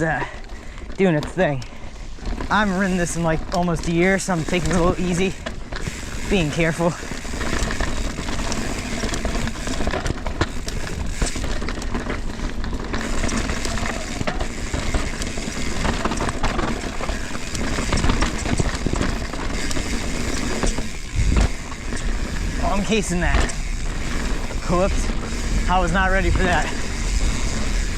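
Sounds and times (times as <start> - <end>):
bike tyres rolling over rocks: 0.0 - 27.9.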